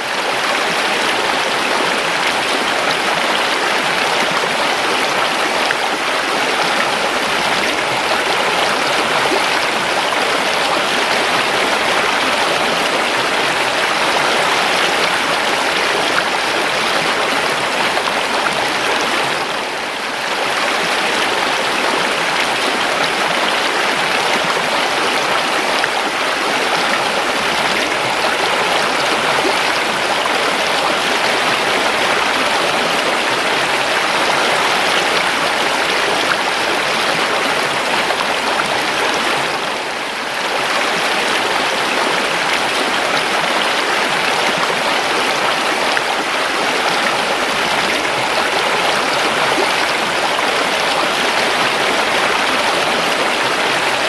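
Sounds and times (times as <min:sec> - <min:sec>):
stream water rushing and babbling: 0:00.0 - 0:54.0.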